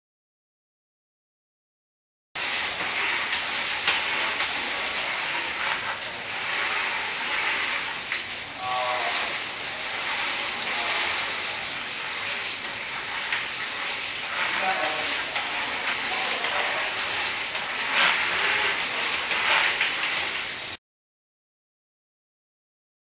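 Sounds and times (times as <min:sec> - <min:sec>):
bicycle tyre hissing on a roller: 0:02.4 - 0:20.8.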